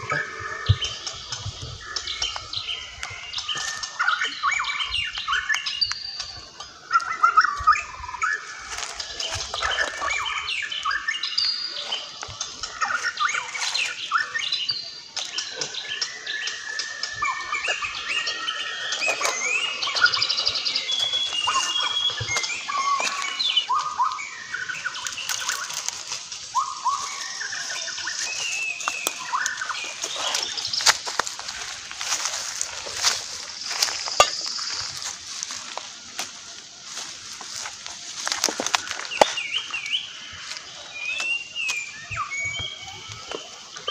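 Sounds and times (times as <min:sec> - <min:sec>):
birds chirping: 0:00.0 - 0:43.9
leaves and twigs crackling: 0:00.0 - 0:43.9.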